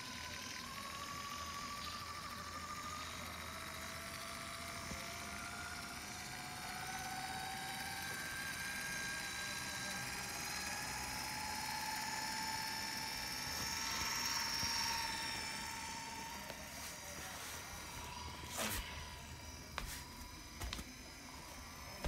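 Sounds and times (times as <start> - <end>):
model locomotive motor whining: 0.0 - 22.0.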